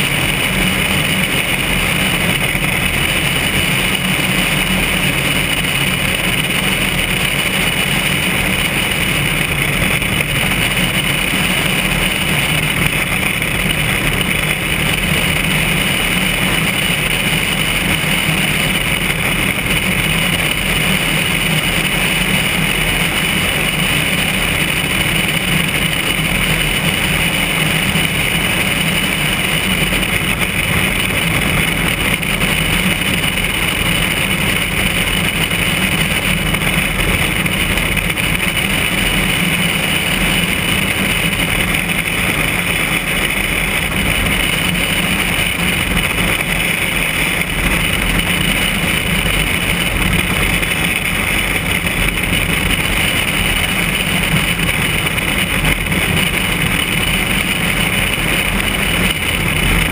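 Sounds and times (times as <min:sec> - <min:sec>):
light airplane engine and propeller drone: 0:00.0 - 0:59.9.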